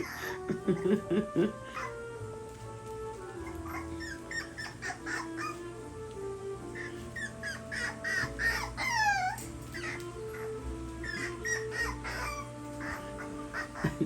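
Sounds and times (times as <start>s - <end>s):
puppy yelping and whimpering: 0.0s - 0.8s, 1.6s - 2.2s, 3.3s - 6.0s, 6.6s - 14.0s.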